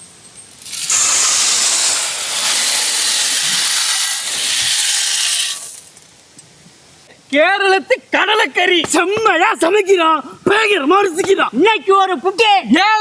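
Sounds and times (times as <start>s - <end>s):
loud steady hiss: 0.0s - 12.6s.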